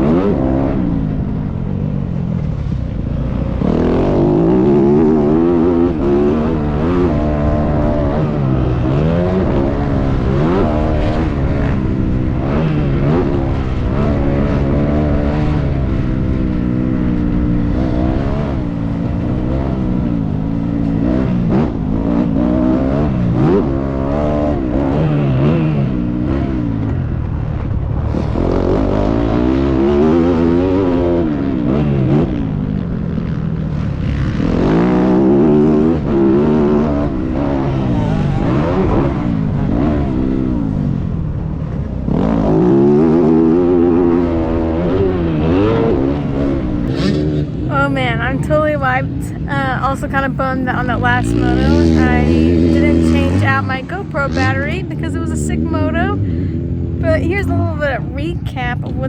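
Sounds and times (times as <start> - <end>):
dirt bike engine revving: 2.4 - 59.0.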